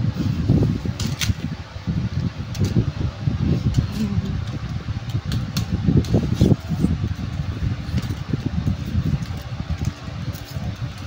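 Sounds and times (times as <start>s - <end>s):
air rumble on microphone: 0.0s - 11.0s.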